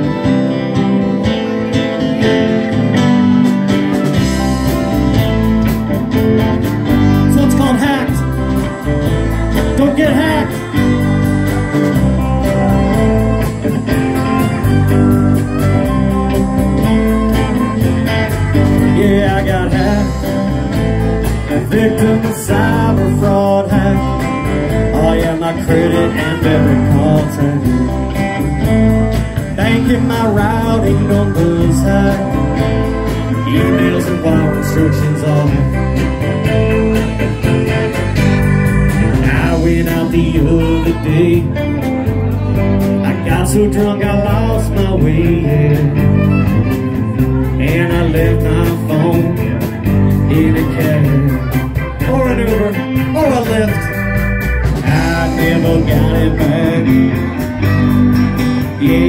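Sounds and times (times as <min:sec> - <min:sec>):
live band playing: 0:00.0 - 0:59.0
person singing: 0:00.0 - 0:59.0.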